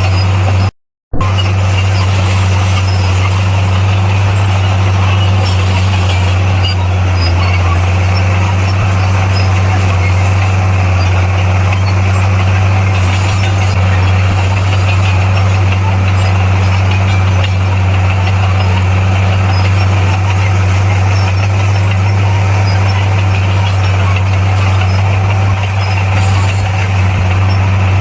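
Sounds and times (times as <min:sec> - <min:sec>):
bulldozer diesel engine humming: 0:00.0 - 0:28.0.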